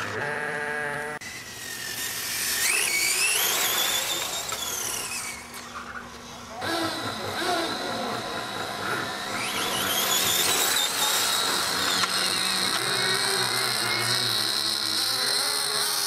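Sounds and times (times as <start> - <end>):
toy car motor whining: 0.0 - 16.0.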